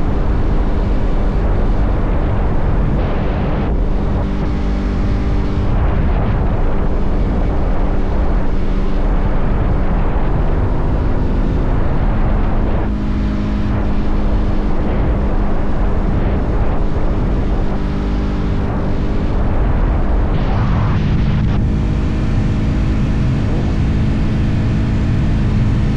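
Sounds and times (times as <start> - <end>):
motorcycle engine running: 0.0 - 25.9
wind rushing on microphone: 0.0 - 25.9.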